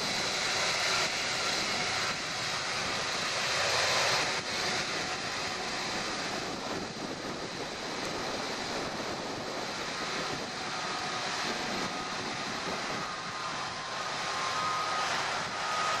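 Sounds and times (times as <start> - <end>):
faint high whine: 0.0 - 16.0
jet engines rushing: 0.0 - 16.0.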